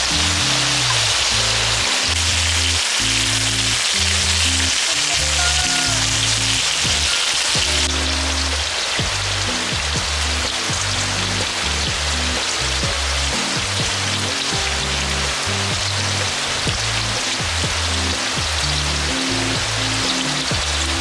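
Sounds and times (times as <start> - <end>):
music with held bass notes: 0.0 - 21.0.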